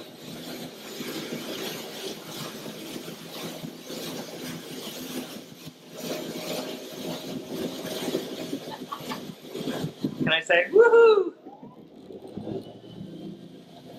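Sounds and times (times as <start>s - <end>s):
wind noise: 0.0s - 13.9s.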